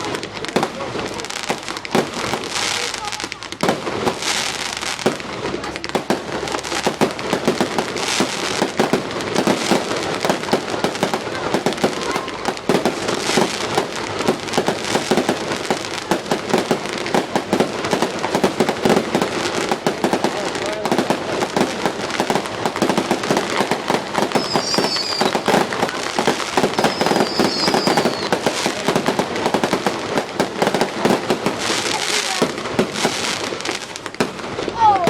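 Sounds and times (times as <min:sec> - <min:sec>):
fireworks banging and crackling: 0:00.0 - 0:35.0.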